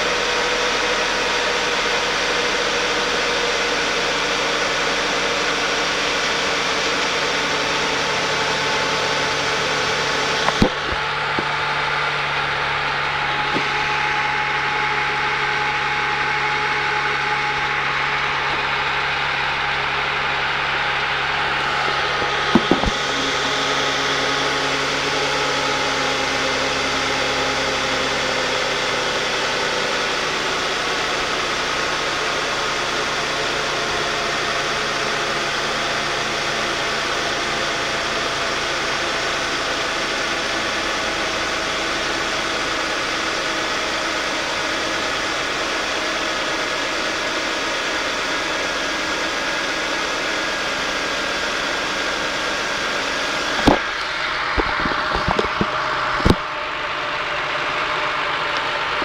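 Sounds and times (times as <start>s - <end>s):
car engine idling with buzz: 0.0s - 59.0s.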